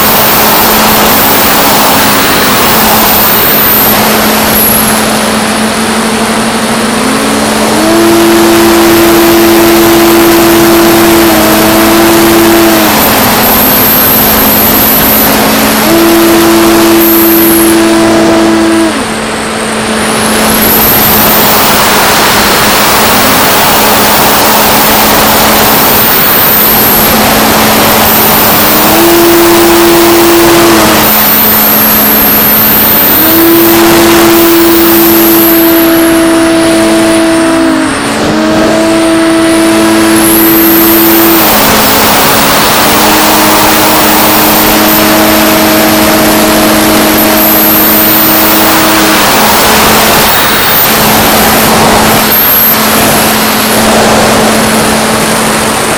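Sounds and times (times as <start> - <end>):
electric motor and propeller: 0.0 - 55.9
wind rush over airframe: 0.0 - 55.9.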